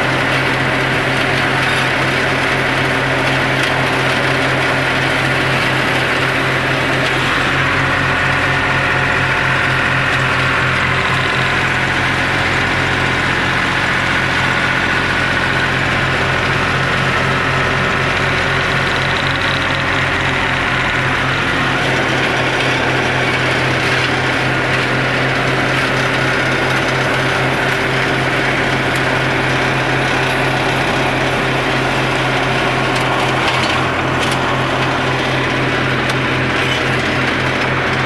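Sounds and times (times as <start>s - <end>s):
flail mulcher droning: 0.0s - 38.0s
tractor engine running: 0.0s - 38.0s.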